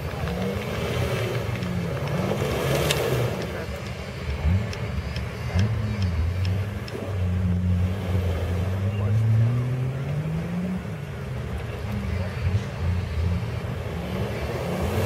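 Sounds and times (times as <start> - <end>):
engine revving up and down: 0.0 - 15.0.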